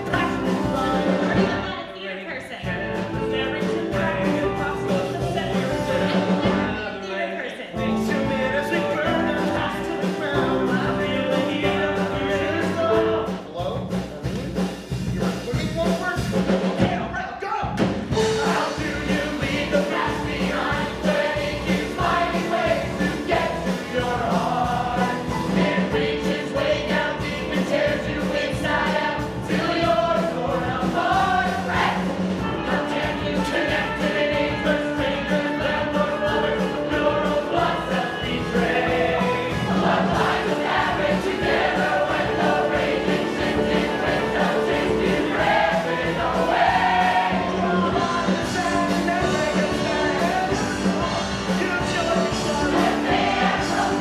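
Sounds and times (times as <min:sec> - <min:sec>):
drum beat: 0:00.0 - 0:01.8, 0:02.6 - 0:06.9, 0:07.8 - 0:54.0
rock band playing: 0:00.0 - 0:01.9, 0:02.6 - 0:07.0, 0:07.8 - 0:16.8, 0:17.9 - 0:54.0
voices singing in chorus: 0:02.7 - 0:13.5, 0:18.1 - 0:54.0.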